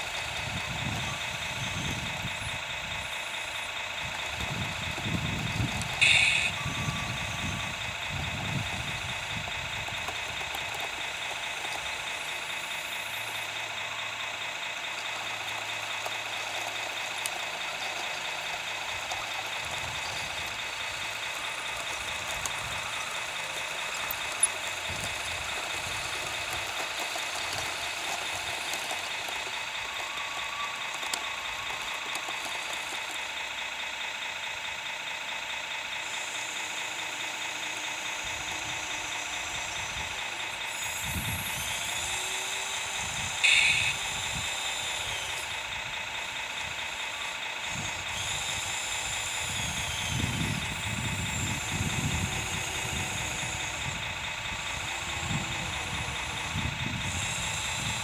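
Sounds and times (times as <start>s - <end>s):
high motor whine: 0.0s - 58.0s.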